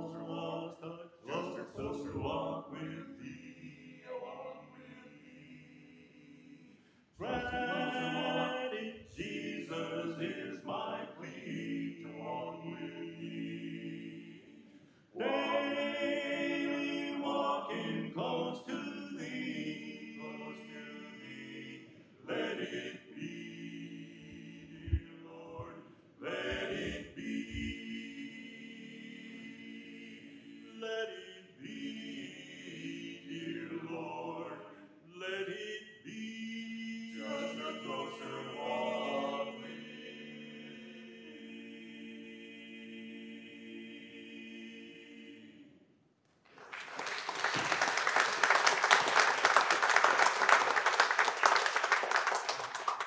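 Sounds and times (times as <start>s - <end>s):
male vocal quartet singing: 0.0s - 45.7s.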